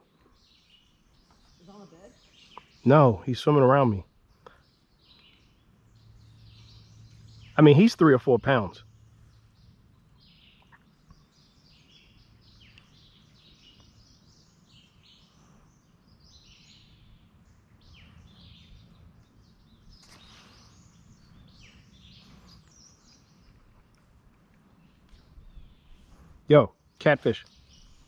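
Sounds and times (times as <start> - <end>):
songbirds chirping: 0.0 - 28.0
low background rumble: 4.0 - 26.5.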